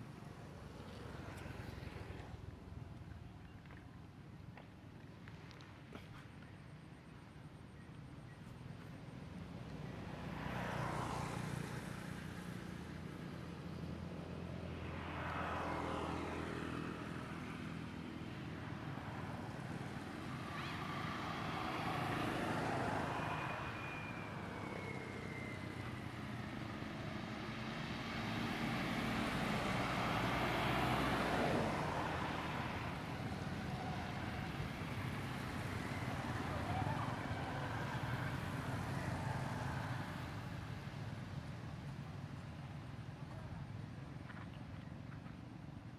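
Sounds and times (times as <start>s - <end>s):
steady low traffic rumble: 0.0s - 10.4s, 16.3s - 45.9s
vehicles passing: 0.0s - 45.9s.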